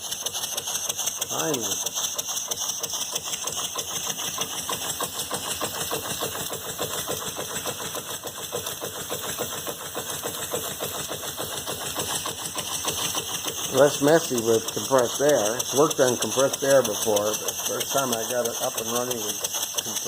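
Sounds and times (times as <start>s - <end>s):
model steam engine exhaust strokes: 0.0s - 20.0s
steam hissing: 0.0s - 20.0s.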